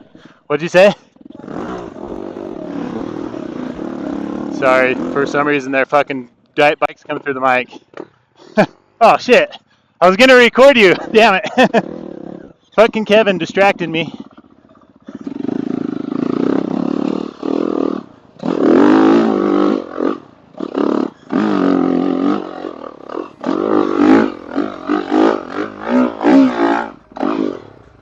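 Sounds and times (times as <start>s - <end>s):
dirt bike engine revving: 0.0s - 7.4s, 10.4s - 28.0s.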